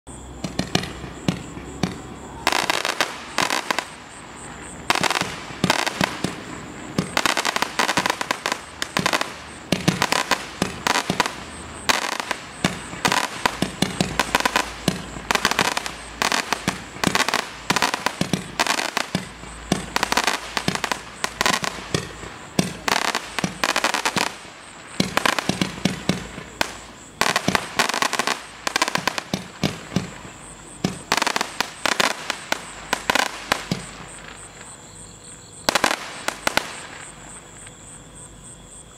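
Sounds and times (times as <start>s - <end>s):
firework sharp bangs: 0.3s - 34.8s, 35.6s - 37.2s.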